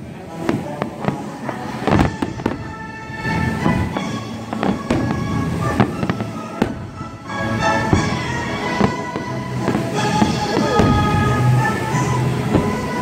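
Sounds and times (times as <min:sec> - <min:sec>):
fireworks bursting: 0:00.0 - 0:13.0
music playing: 0:00.8 - 0:13.0.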